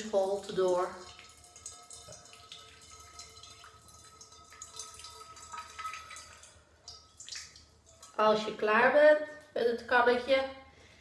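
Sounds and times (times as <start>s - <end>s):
water dripping into metal bowl: 0.0s - 9.6s.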